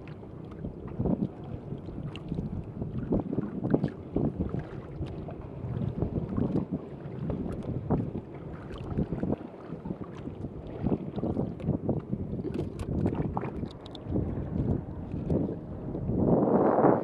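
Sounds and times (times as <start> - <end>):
water sloshing: 0.0 - 16.3
wind buffeting microphone: 0.0 - 17.0.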